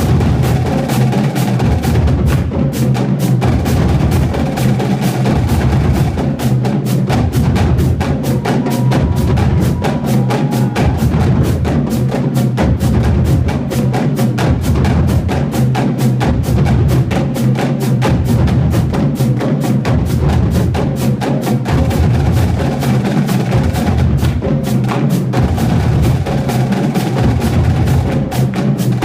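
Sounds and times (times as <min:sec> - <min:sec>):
bass drums: 0:00.0 - 0:29.0
fast snare drum strokes: 0:00.0 - 0:29.0.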